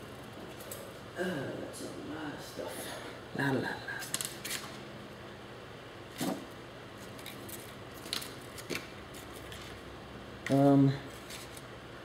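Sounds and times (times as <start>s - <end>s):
room fan hum: 0.0s - 12.0s.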